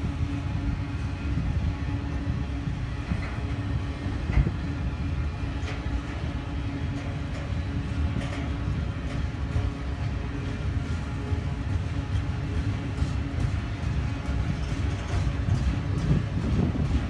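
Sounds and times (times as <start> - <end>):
freight train wheels rumbling: 0.0 - 17.0
low hum: 0.0 - 17.0
train cars clanking: 0.0 - 17.0.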